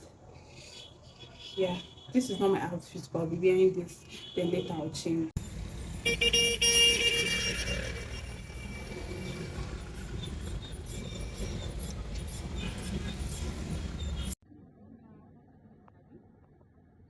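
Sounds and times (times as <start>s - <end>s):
steady traffic rumble: 0.0s - 14.4s.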